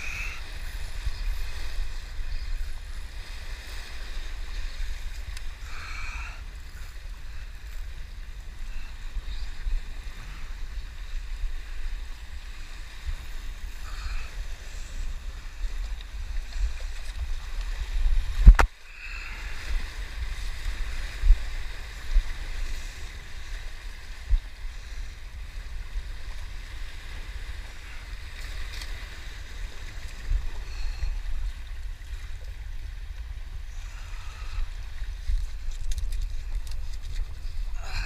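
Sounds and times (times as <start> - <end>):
surf washing around rocks: 0.0 - 38.0
wind rumble on microphone: 0.0 - 38.0.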